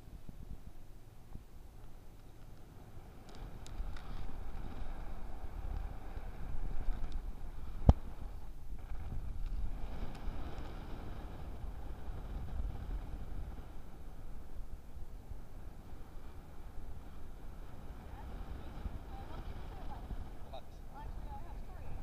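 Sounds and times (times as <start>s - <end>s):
wind buffeting camera case: 1.4s - 22.0s.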